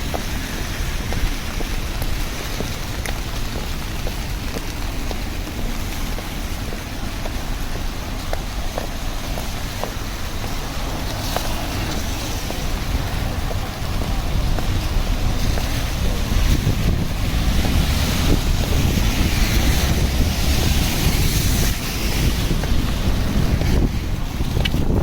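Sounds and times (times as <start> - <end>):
rain hiss: 0.0 - 25.0
wind buffeting microphone: 0.0 - 25.0.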